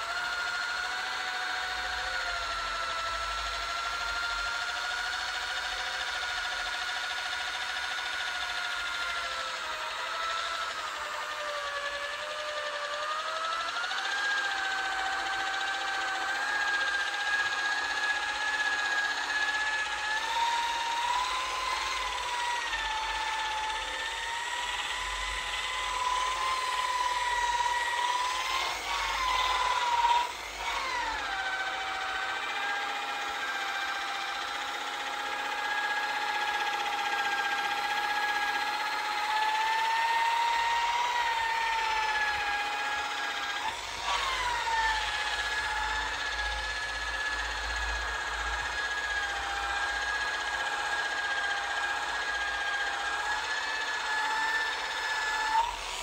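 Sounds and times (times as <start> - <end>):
polishing buffer motor whine: 0.0 - 56.0.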